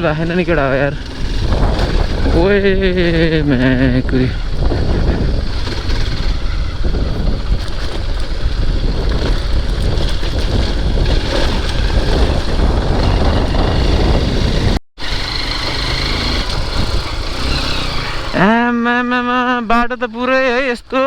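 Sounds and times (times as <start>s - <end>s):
dirt bike engine running: 0.0s - 19.6s.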